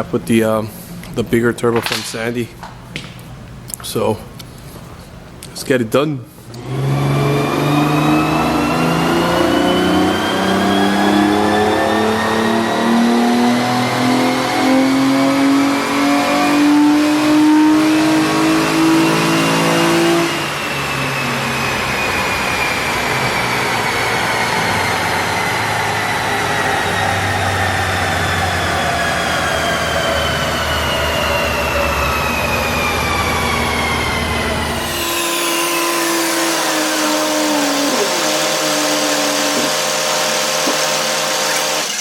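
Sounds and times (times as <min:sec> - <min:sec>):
engine revving under load: 0:06.5 - 0:42.0
high whine: 0:06.7 - 0:42.0.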